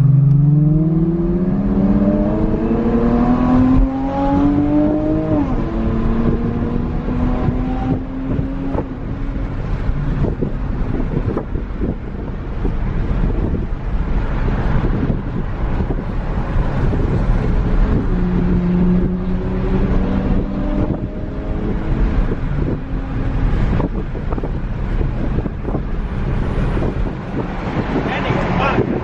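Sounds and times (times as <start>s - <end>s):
car engine and road rumble: 0.0s - 29.0s
wind buffeting microphone: 0.4s - 29.0s.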